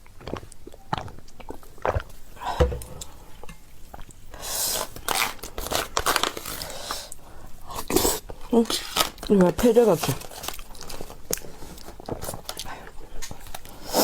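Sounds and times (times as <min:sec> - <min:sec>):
wet chewing of pasta: 0:00.0 - 0:14.0.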